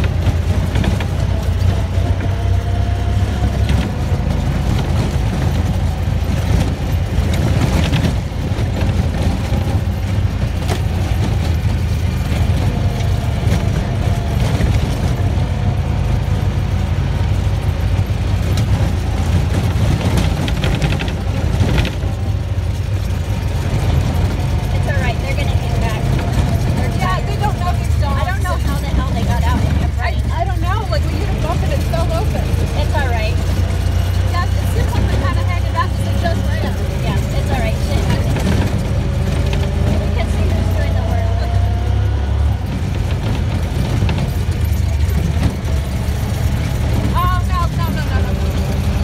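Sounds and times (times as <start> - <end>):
rattles and bumps: 0.0 - 49.0
vehicle engine and tyres rumbling: 0.0 - 49.0.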